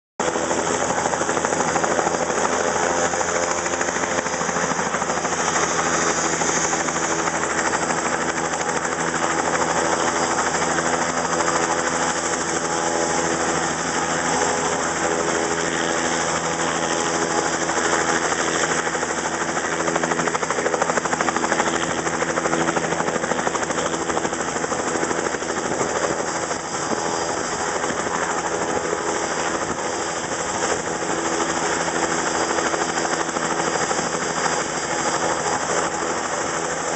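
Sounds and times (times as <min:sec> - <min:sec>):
helicopter engine and rotor: 0:00.2 - 0:36.9.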